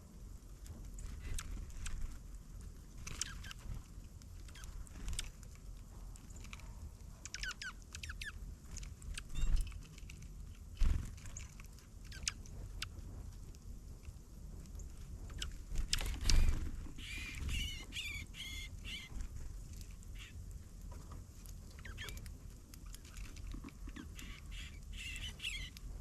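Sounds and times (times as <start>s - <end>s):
small birds chirping: 0.6s - 2.3s, 2.9s - 13.3s, 14.6s - 20.5s, 21.3s - 26.0s.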